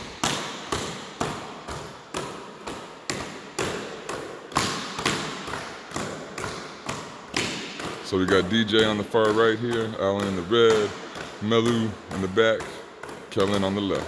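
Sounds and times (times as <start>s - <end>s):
palms slapping basketballs: 0.0s - 14.0s.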